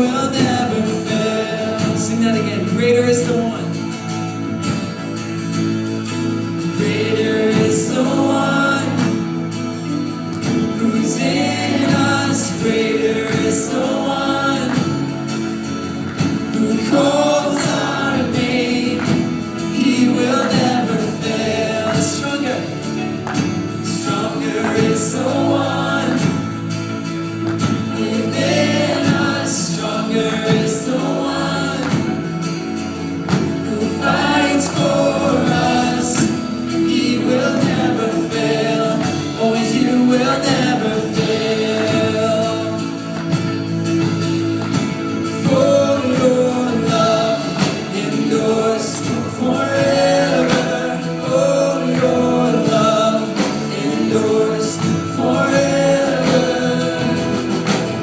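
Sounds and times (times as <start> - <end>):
congregation singing worship music: 0.0 - 58.0
full band playing: 0.0 - 58.0.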